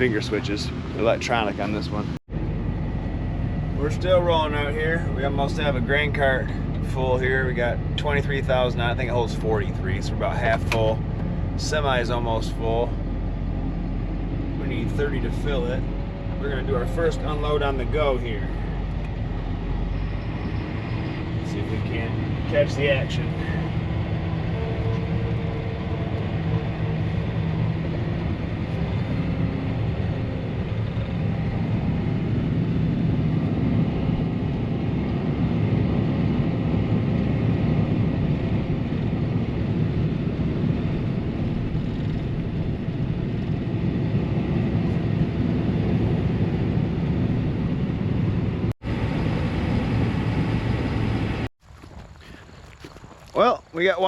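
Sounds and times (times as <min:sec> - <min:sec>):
harvest machinery droning: 0:00.0 - 0:54.0.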